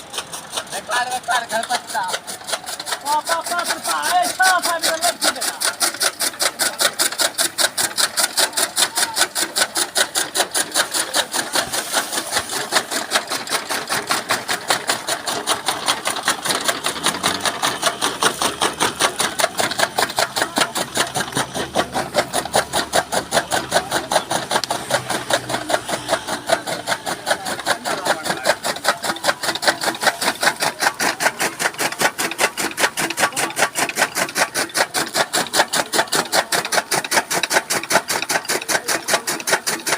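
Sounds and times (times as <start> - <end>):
chaff cutter chopping stalks: 0.0 - 39.9.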